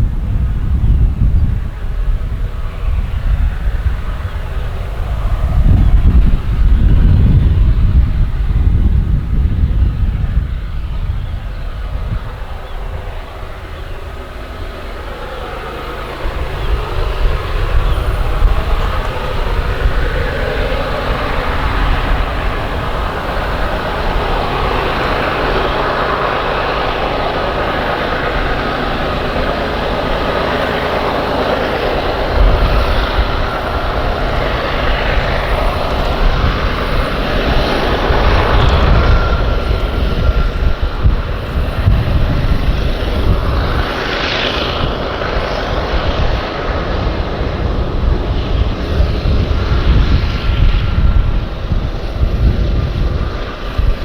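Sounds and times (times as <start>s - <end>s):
coal train rolling past: 0.0s - 54.0s
faint steady squeal: 0.0s - 54.0s
heavy uneven low rumble: 0.0s - 54.0s.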